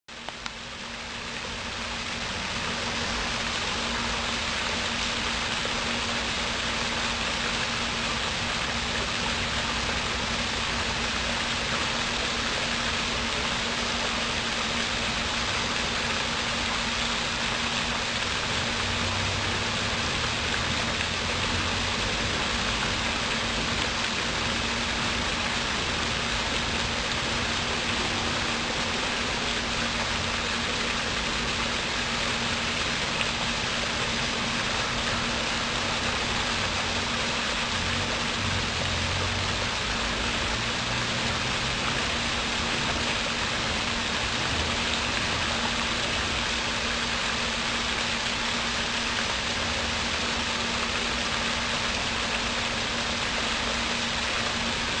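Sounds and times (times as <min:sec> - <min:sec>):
low steady hum: 0:00.1 - 0:55.0
steady hiss: 0:00.1 - 0:55.0.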